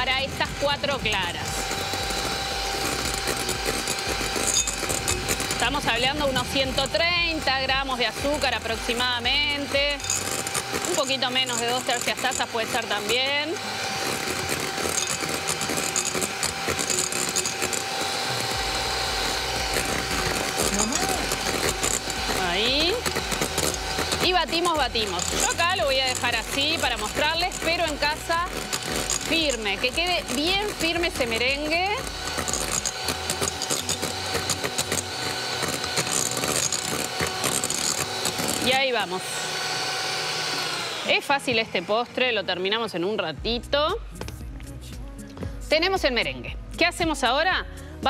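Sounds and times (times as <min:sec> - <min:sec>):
electric hand mixer whining: 0:00.0 - 0:44.2, 0:46.6 - 0:48.0.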